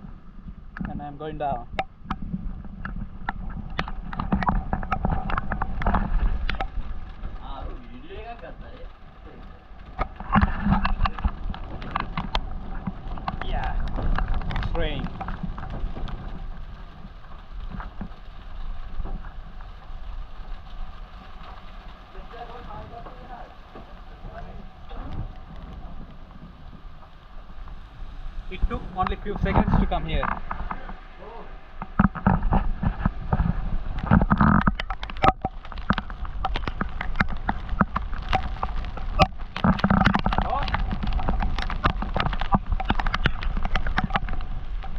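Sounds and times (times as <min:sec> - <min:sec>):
heavy rain: 0:00.0 - 0:44.9
wind buffeting microphone: 0:00.0 - 0:44.9.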